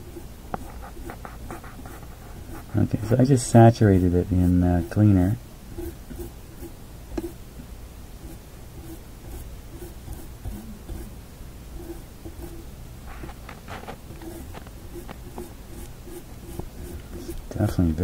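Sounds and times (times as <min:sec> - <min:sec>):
small brush scrubbing: 0:00.0 - 0:07.4, 0:08.2 - 0:11.1, 0:11.7 - 0:18.0.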